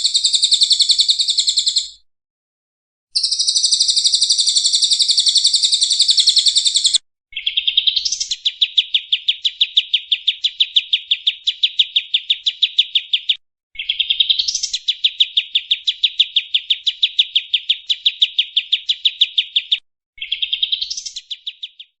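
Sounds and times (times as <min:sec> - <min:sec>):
songbird chattering and trilling: 0:00.0 - 0:02.0, 0:03.2 - 0:22.0.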